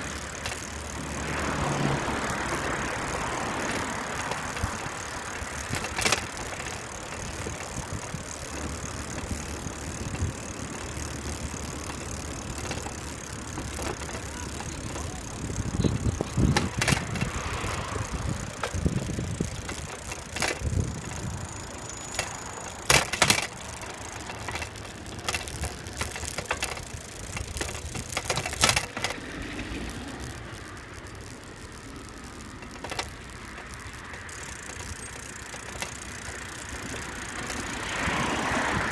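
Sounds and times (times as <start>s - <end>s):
bicycle rattling over bumps: 0.0s - 38.9s
tyre rumble on asphalt: 0.0s - 38.9s
wind: 0.0s - 38.9s.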